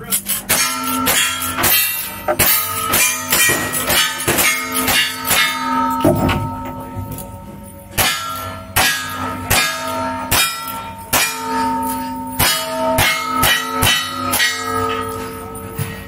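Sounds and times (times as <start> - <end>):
steel plate target ringing: 0.0 - 16.0.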